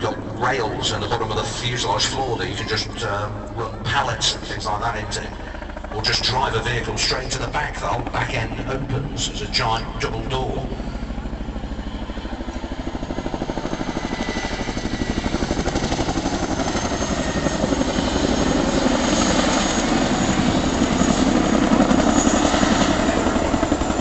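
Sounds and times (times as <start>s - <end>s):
helicopter rotors beating: 0.0s - 24.0s.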